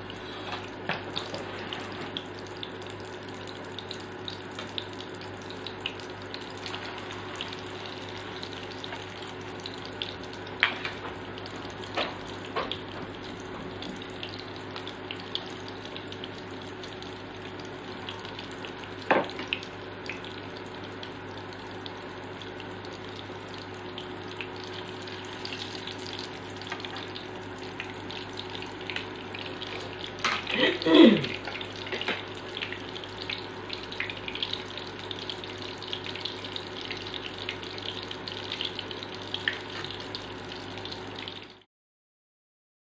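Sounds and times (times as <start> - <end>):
omelettes sizzling in oil: 0.0 - 41.4
faint hum: 0.0 - 41.6.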